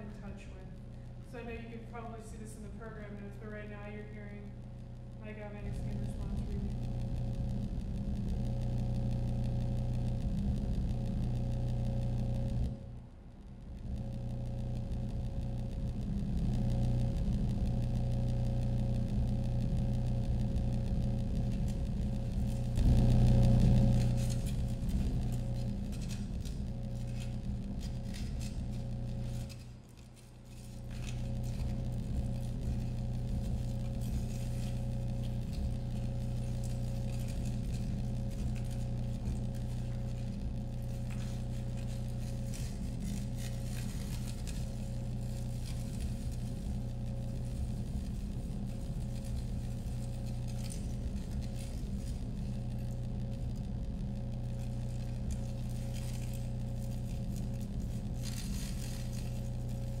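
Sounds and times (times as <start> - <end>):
scratchy crackling texture: 0.0 - 60.0
layered electronic drone: 6.7 - 59.7.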